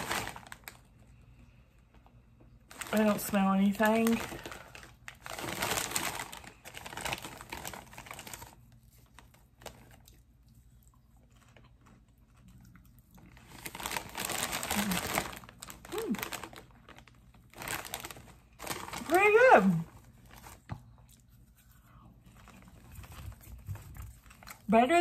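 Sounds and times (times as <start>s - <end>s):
snack bag crinkling: 0.0s - 1.2s, 1.8s - 24.9s.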